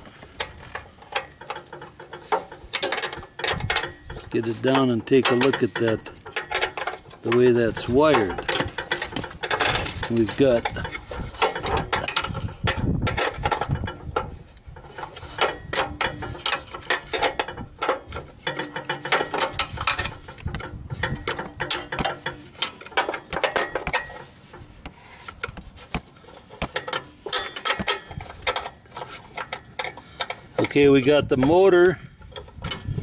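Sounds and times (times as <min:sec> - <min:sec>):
rubbing and rattling: 0:00.0 - 0:33.0.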